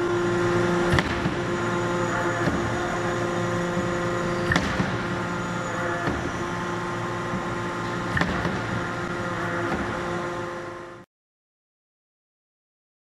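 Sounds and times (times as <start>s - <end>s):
forging hammer humming: 0.0s - 11.0s.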